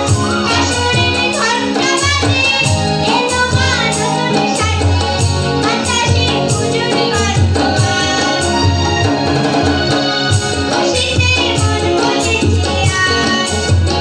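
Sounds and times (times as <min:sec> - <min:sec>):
harmonium: 0:00.0 - 0:14.0
woman singing: 0:00.0 - 0:14.0.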